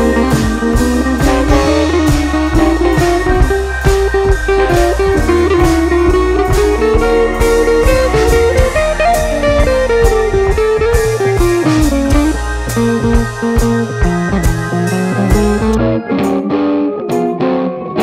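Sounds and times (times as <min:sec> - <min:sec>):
steady drum beat: 0:00.0 - 0:16.3
blues guitar: 0:00.0 - 0:18.0.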